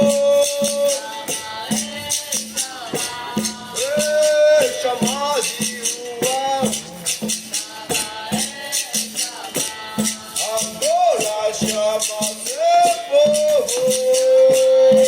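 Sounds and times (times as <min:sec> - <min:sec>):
berimbau: 0:00.0 - 0:15.0
percussion strikes: 0:00.0 - 0:15.0
shaken rattle: 0:00.0 - 0:15.0
voices singing: 0:00.0 - 0:15.0.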